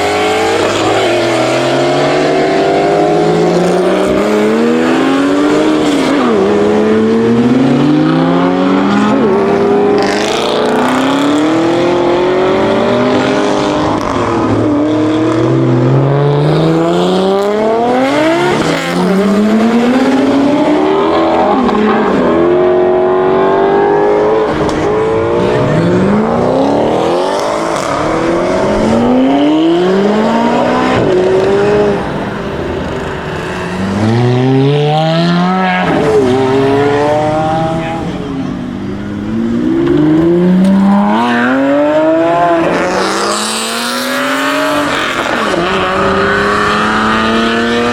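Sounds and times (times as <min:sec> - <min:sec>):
car engines accelerating hard: 0:00.0 - 0:47.9.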